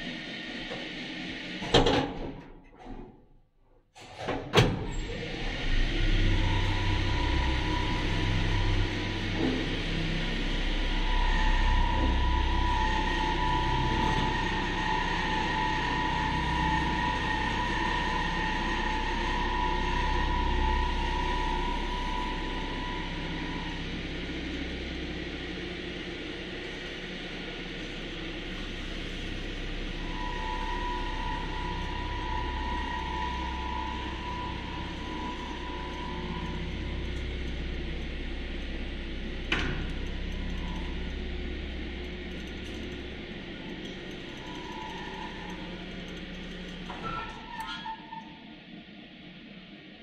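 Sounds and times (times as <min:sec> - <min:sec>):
elevator rumble and rushing: 0:04.6 - 0:48.6
high whine: 0:05.1 - 0:49.7.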